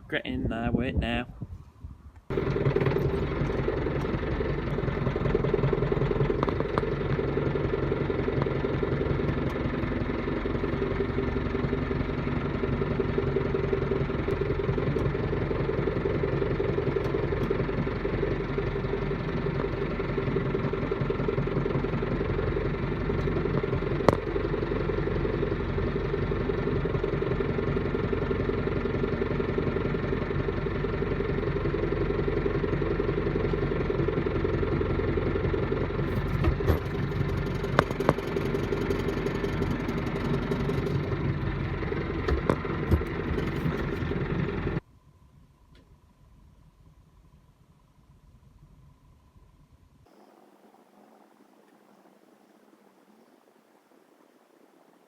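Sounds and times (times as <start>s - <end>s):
tractor engine running: 2.2s - 53.1s.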